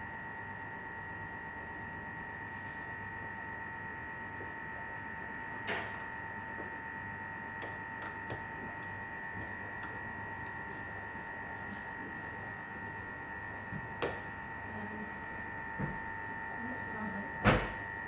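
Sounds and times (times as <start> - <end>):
electrical hum with high whine: 0.0 - 18.0.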